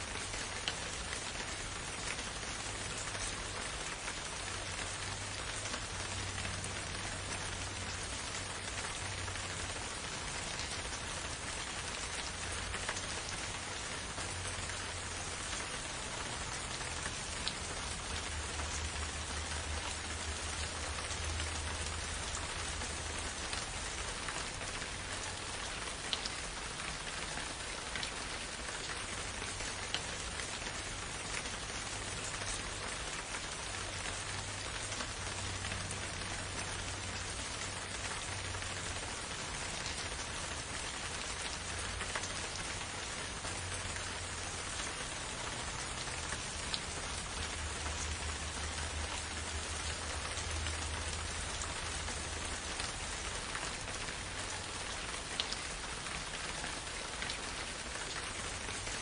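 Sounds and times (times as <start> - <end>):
rain falling in forest: 0.0 - 59.0.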